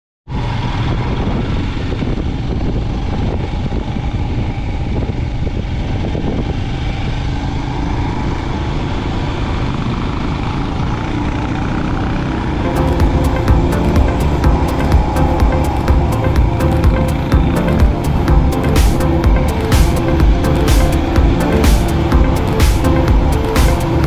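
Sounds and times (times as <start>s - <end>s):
motorcycle engine: 0.3s - 24.0s
road and wind noise: 0.3s - 24.0s.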